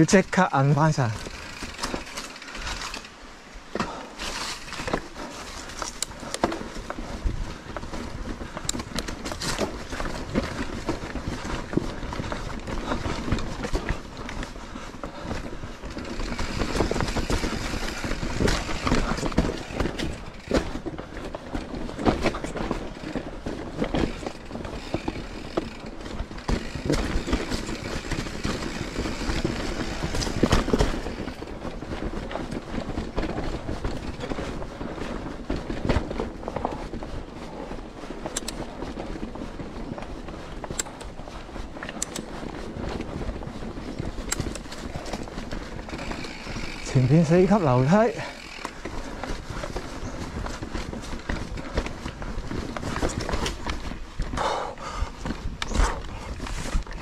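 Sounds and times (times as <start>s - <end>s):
bike rattling and knocking: 0.0s - 57.0s
bike tyres rumbling on trail: 0.0s - 57.0s.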